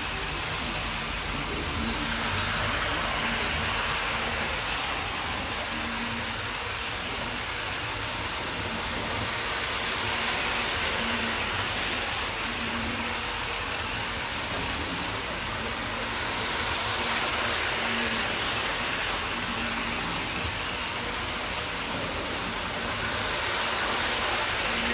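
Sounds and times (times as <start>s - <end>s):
model train running on track: 0.0s - 24.9s.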